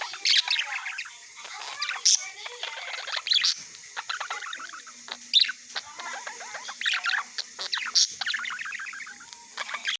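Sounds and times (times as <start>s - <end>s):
budgerigar chattering: 0.0s - 9.9s.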